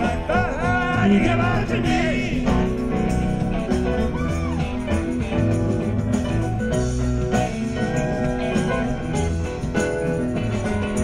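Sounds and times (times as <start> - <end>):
electric guitar: 0.0 - 11.0
live rock band playing: 0.0 - 11.0.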